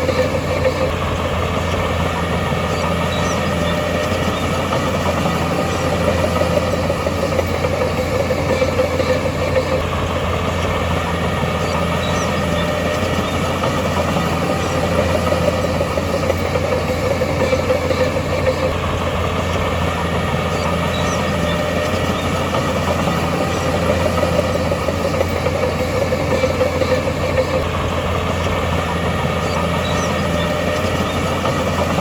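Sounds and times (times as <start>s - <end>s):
diesel engine low drone: 0.0s - 32.0s.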